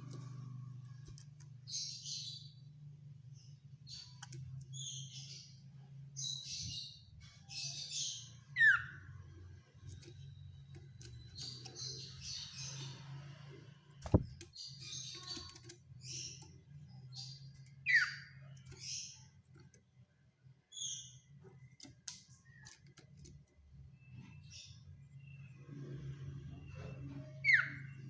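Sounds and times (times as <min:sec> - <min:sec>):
bird chirps and trills: 0:00.0 - 0:25.6, 0:26.6 - 0:28.0.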